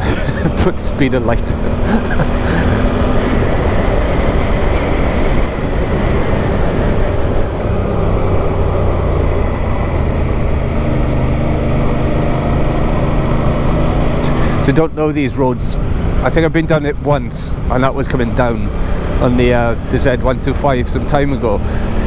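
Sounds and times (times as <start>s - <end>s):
motorcycle engine humming: 0.0s - 22.0s
wind noise: 0.0s - 22.0s.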